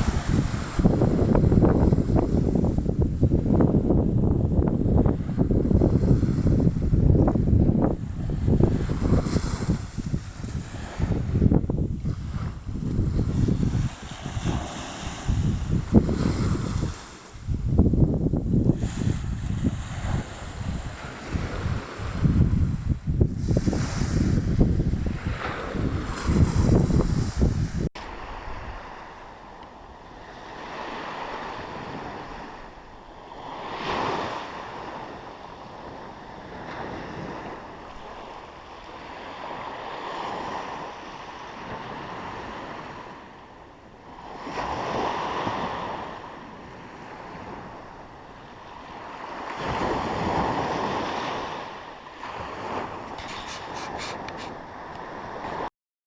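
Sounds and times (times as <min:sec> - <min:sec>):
sea waves breaking: 0:00.0 - 0:55.7
wind buffeting microphone: 0:00.0 - 0:55.7.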